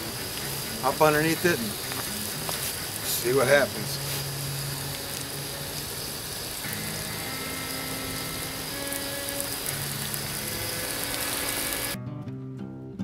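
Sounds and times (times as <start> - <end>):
hose spray pattering down: 0.0 - 12.0.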